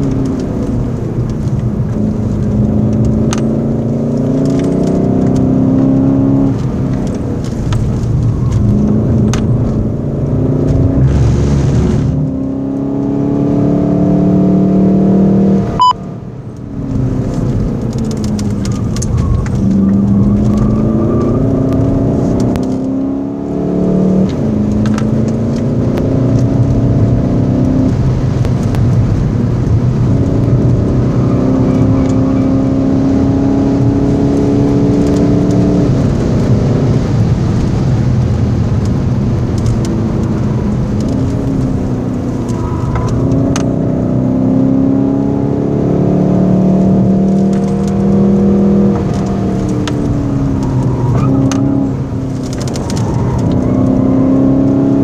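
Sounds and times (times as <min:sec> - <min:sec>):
car engine accelerating: 0:00.0 - 0:55.0
tyre and road noise: 0:00.0 - 0:55.0.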